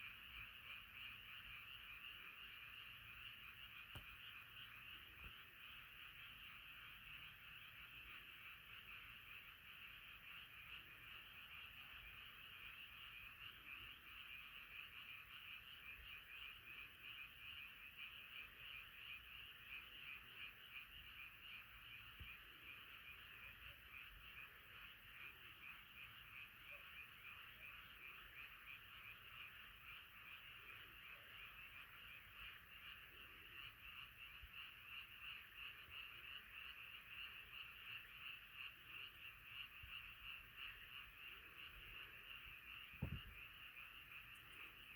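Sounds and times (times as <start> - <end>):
frogs calling in chorus: 0.0 - 44.9.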